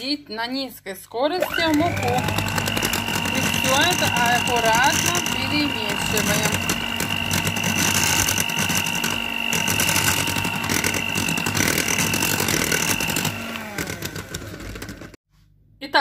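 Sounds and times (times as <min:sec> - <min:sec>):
beaters rattling in bowl: 0:01.4 - 0:15.1
electric mixer motor whine: 0:01.4 - 0:15.2.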